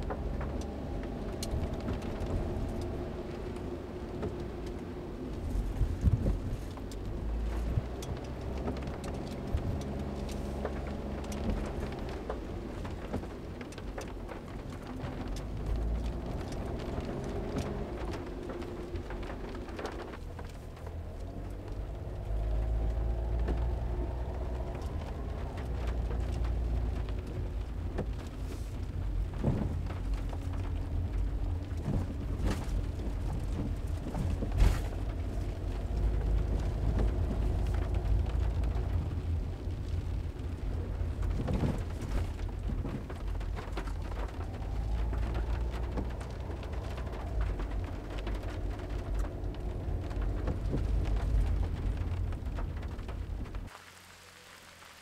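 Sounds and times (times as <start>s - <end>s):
engine and tyres rumbling: 0.0s - 55.0s
rain on windshield and roof: 0.0s - 55.0s.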